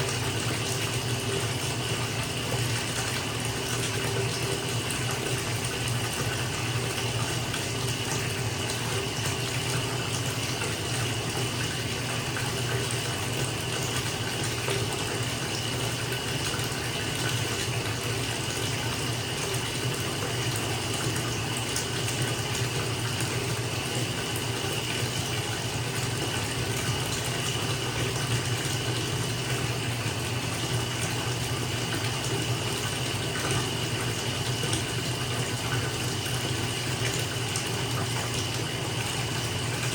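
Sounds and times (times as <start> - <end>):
tap water running into bathtub: 0.0 - 39.9.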